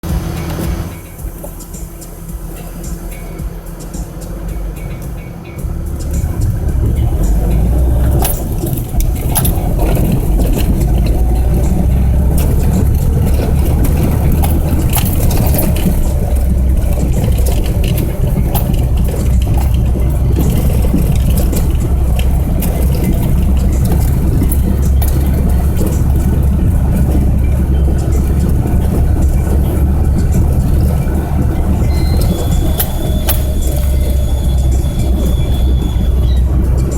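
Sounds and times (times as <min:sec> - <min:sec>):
vehicle engine rumble: 0:00.0 - 0:36.9.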